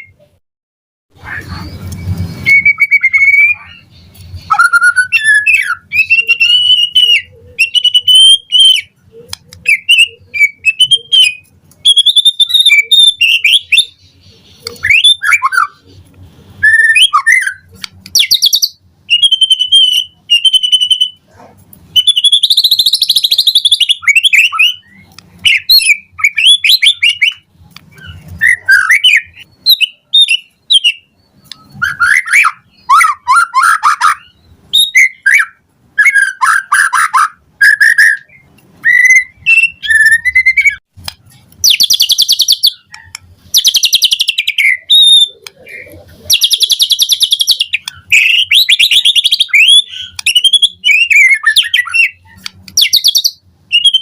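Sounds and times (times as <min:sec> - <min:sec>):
bird singing whistles and trills: 0:01.3 - 0:16.0, 0:16.6 - 0:21.3, 0:21.9 - 0:40.8, 0:41.6 - 0:54.0.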